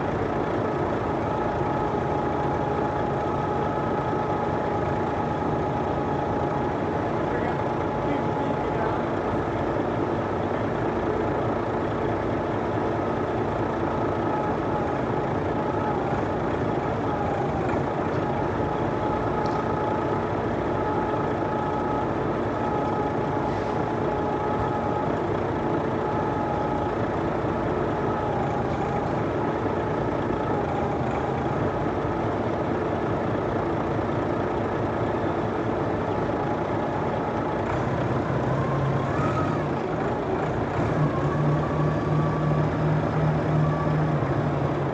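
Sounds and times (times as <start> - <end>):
heavy diesel engine rumble: 0.0 - 44.9
steady whine: 0.0 - 44.9.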